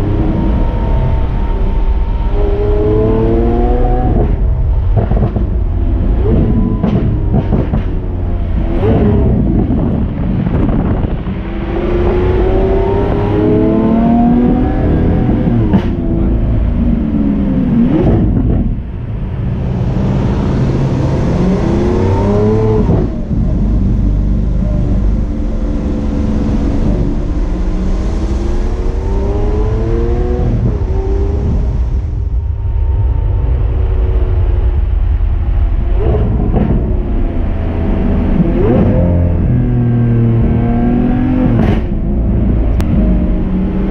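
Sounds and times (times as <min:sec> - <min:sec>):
sports car accelerating: 0:00.0 - 0:43.9.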